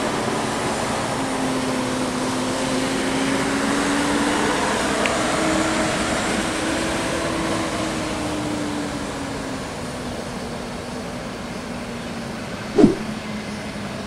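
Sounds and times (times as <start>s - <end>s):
road noise hiss: 0.0s - 14.0s.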